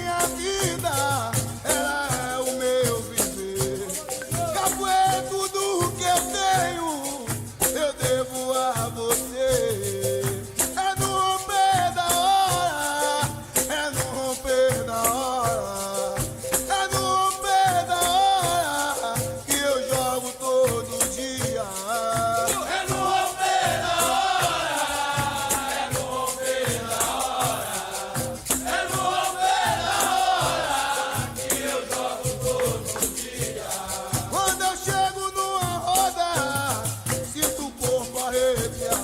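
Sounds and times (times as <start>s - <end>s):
berimbau playing: 0.0s - 39.0s
even low beat: 0.0s - 39.0s
voices singing a chant: 0.0s - 39.0s.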